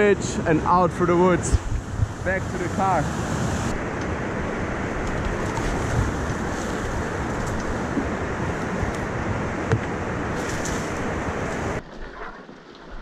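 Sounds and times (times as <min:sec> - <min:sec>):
river rushing: 0:00.0 - 0:11.8
wind noise on microphone: 0:00.0 - 0:13.0.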